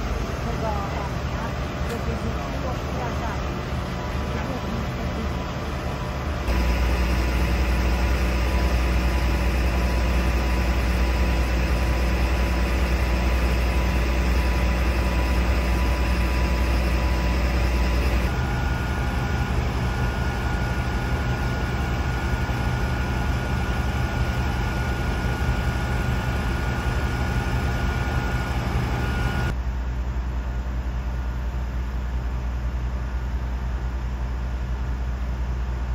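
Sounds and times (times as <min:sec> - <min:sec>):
diesel engines idling: 0:00.0 - 0:35.9
faint steady whine: 0:00.0 - 0:35.9.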